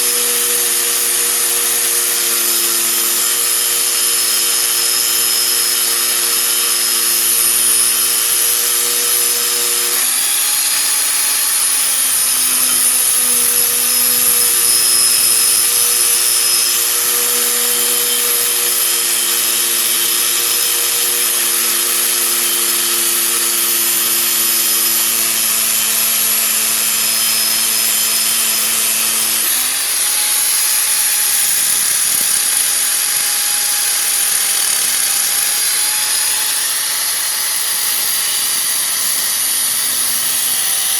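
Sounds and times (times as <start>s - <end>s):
angle grinder grinding metal: 0.0s - 40.9s.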